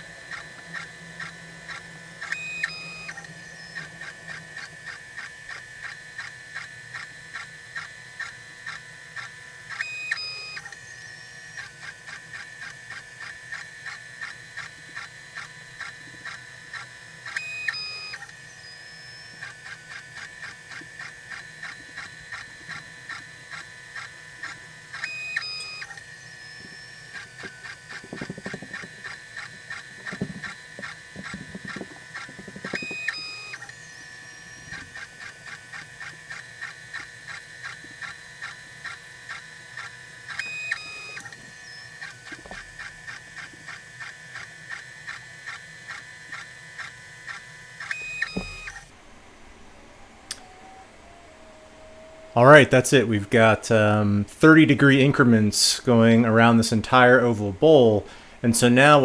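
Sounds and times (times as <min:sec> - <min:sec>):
stepper motors whining: 0:00.0 - 0:59.0.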